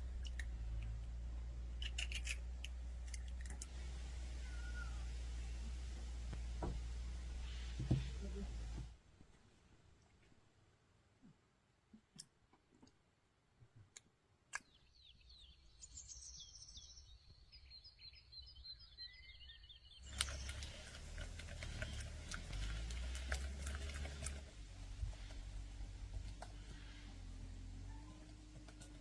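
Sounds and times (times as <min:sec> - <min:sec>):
small birds chirping: 0:00.0 - 0:08.9, 0:13.9 - 0:29.0.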